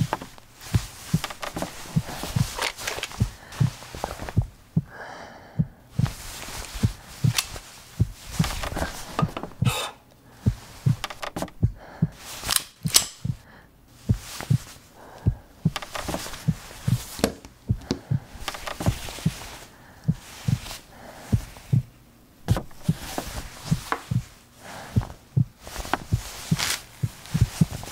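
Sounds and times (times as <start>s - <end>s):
hands handling objects: 0.0s - 4.6s, 6.0s - 13.4s, 14.0s - 21.8s, 22.4s - 27.9s
heartbeat thumps: 0.0s - 27.9s.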